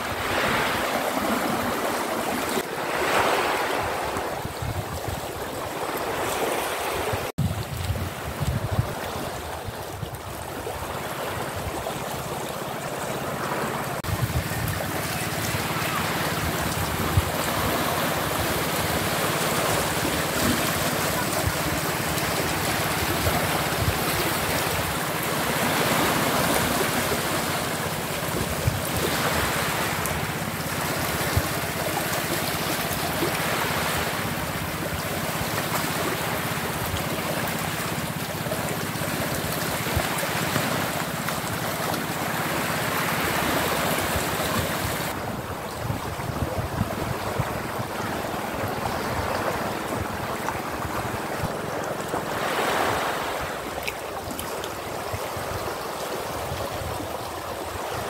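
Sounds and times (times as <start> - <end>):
waves washing over pebbles: 0.0 - 58.0.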